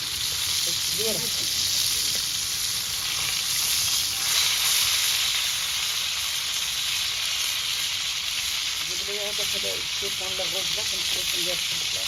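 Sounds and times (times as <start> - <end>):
food sizzling over fire: 0.0 - 12.0.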